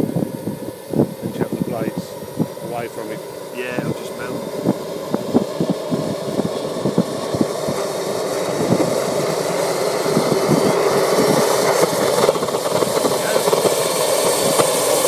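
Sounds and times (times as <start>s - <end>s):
model helicopter engine running: 0.0s - 15.0s.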